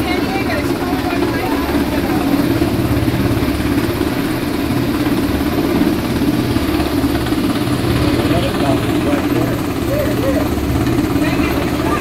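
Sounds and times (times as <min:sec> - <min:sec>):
helicopter hovering overhead: 0:00.0 - 0:12.0.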